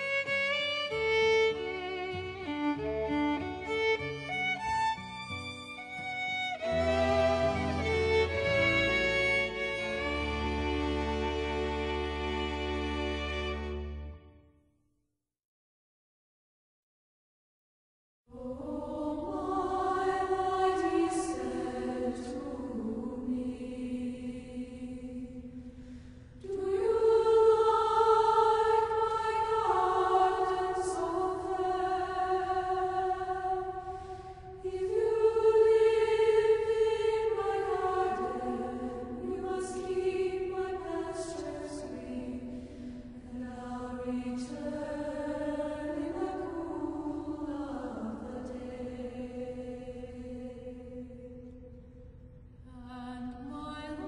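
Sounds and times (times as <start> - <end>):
choir singing held chords: 5.8 - 14.2, 18.3 - 54.0.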